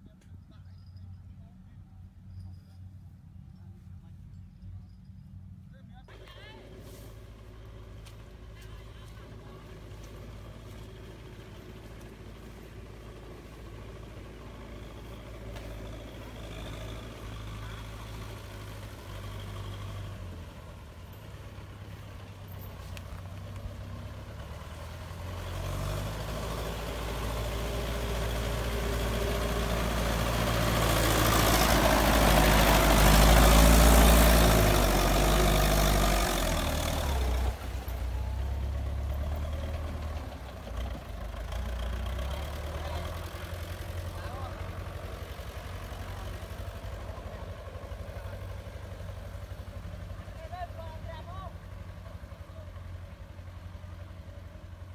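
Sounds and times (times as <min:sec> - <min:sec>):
tractor engine passing: 0:00.0 - 0:54.9.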